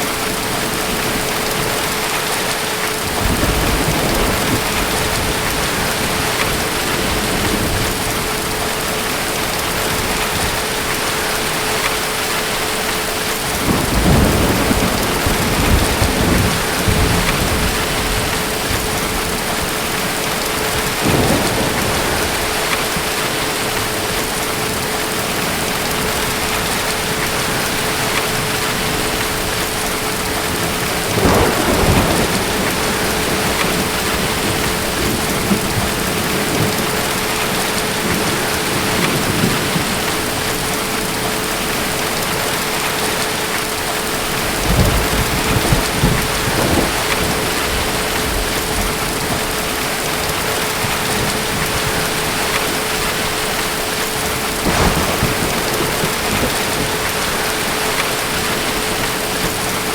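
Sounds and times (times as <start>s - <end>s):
heavy rain: 0.0s - 59.9s
distant thunder rumbling: 0.1s - 43.3s, 44.2s - 59.9s.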